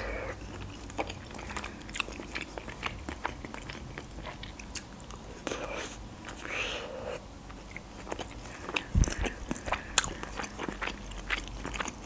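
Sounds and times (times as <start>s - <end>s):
mouth chewing with smacking clicks: 0.3s - 6.5s, 7.4s - 12.0s.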